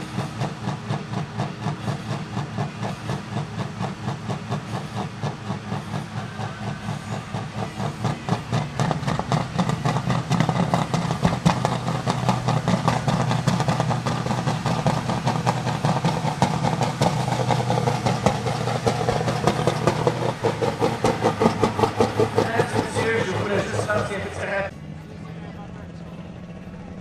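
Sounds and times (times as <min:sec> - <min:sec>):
tractor engine running hard: 0:00.0 - 0:27.0.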